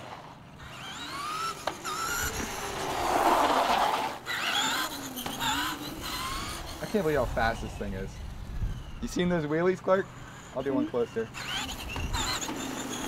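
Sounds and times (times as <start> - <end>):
toy car electric motor whining: 0.0 - 13.0.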